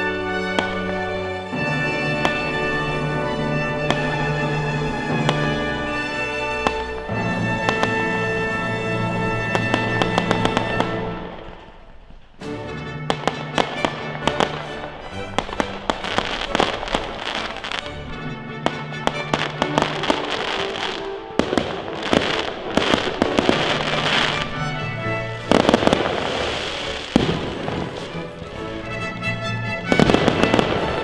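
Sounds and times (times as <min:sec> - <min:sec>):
fireworks bursting and crackling: 0:00.0 - 0:12.4, 0:13.0 - 0:31.0
music with long held notes: 0:00.0 - 0:31.0.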